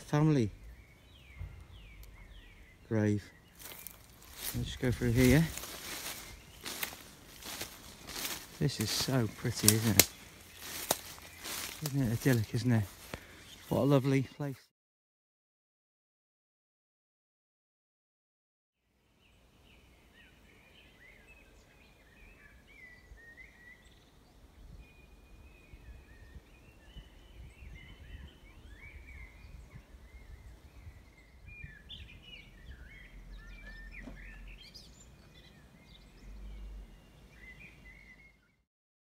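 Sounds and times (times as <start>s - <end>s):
birds singing: 0.0s - 14.7s, 19.0s - 38.6s.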